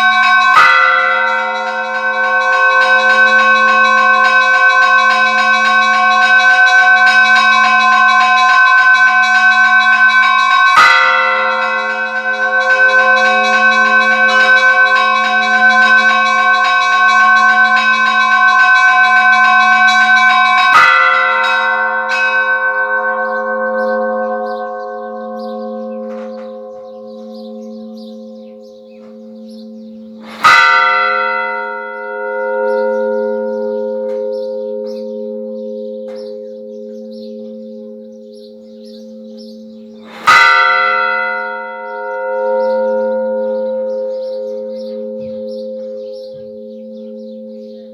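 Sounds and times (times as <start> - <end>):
fast peal of church bells: 0.0 - 47.9
large bell tolling: 0.0 - 47.9.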